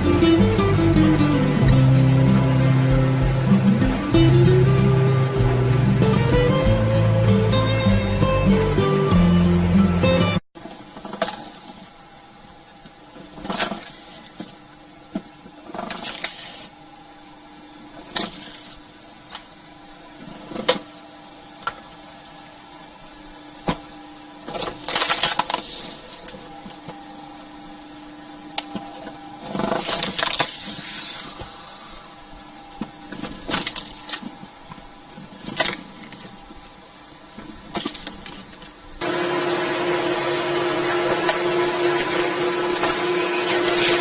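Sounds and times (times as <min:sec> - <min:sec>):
tree-cutting machine humming: 0:00.0 - 0:10.4, 0:11.0 - 0:44.0.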